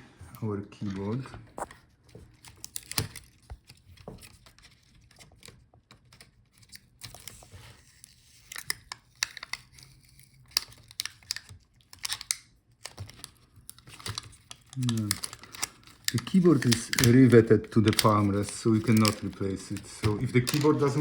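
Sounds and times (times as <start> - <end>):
plastic clicks and scrapes: 0.8 - 21.0
tearing and crinkling: 2.3 - 21.0.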